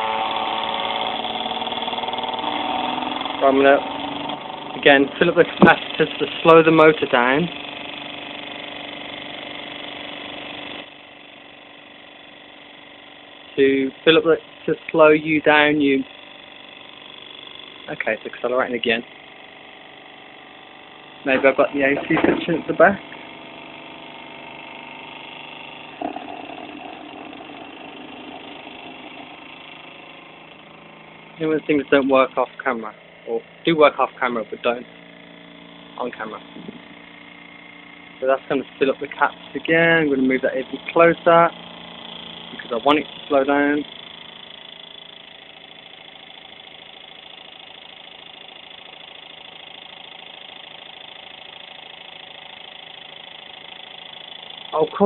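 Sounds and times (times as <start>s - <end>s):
small electric motor humming: 0.0s - 55.0s.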